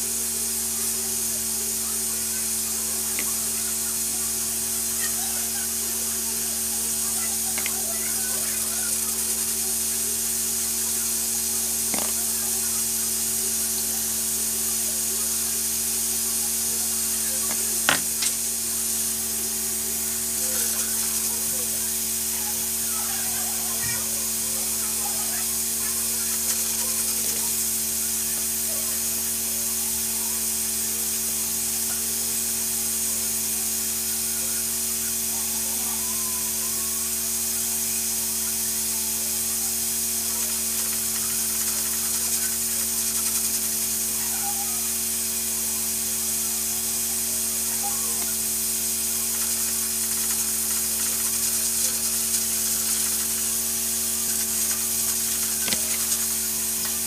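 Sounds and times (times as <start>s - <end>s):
pressure cooker hissing: 0.0s - 57.0s.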